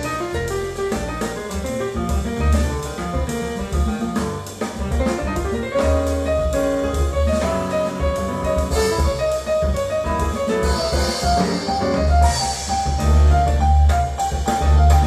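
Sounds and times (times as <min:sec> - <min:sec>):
jazz piano trio over speakers: 0:00.0 - 0:15.0.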